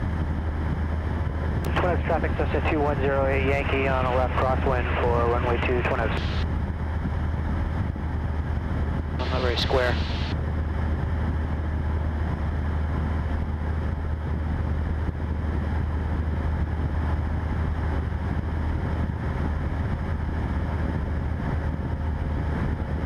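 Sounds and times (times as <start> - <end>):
airplane engine and propeller droning: 0.0 - 23.0.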